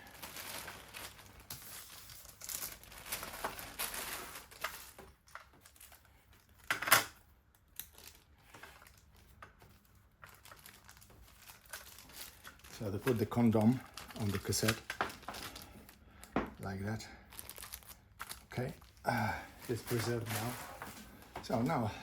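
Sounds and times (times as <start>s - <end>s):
plastic packaging crinkling: 0.0s - 6.8s, 7.6s - 21.8s.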